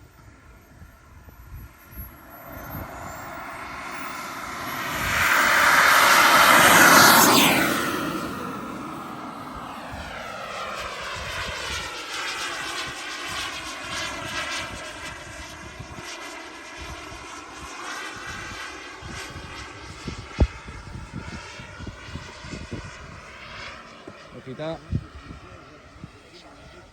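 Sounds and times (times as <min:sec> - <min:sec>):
jet turbine whining: 0:00.0 - 0:26.9.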